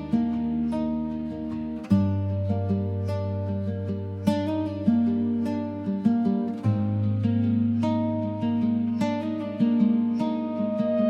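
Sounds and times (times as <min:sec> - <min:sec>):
acoustic guitar instrumental: 0:00.0 - 0:11.0.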